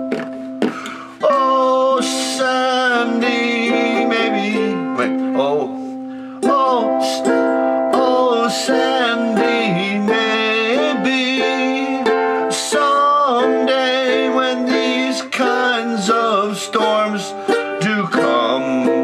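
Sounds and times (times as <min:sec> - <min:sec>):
ukulele playing: 0:00.0 - 0:19.0
man singing: 0:00.8 - 0:19.0.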